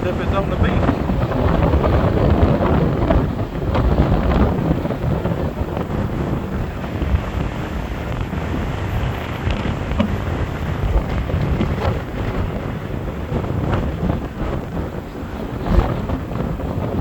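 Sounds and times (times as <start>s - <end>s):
stormy ocean surf: 0.0s - 17.0s
strong wind buffeting microphone: 0.0s - 17.0s.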